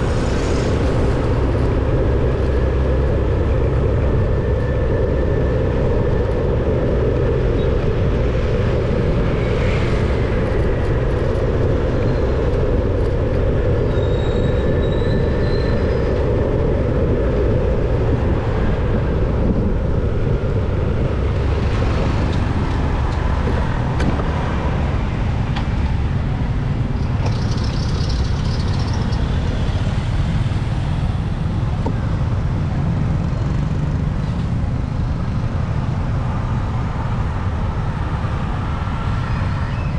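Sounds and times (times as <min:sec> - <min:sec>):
vehicle engine: 0:00.0 - 0:39.9
wind noise: 0:00.0 - 0:39.9.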